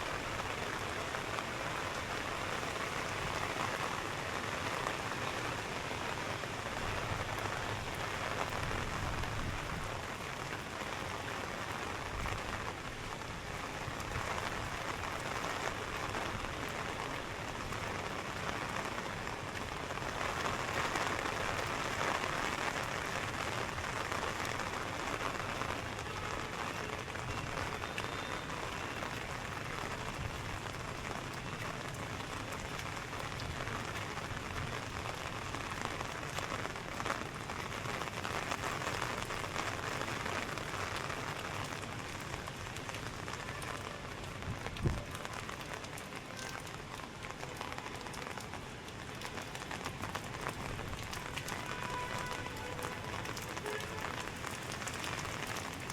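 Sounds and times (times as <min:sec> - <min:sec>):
rain on hard surfaces: 0:00.0 - 0:55.9.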